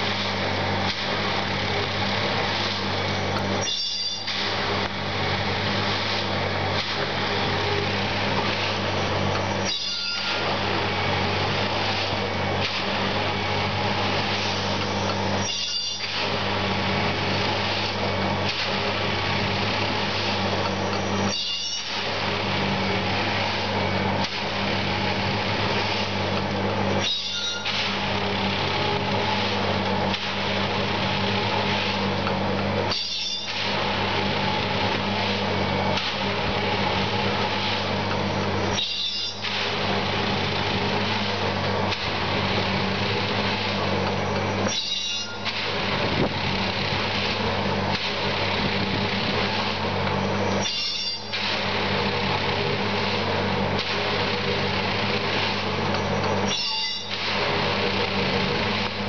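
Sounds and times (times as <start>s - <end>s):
track machine engine drone: 0.0s - 59.0s.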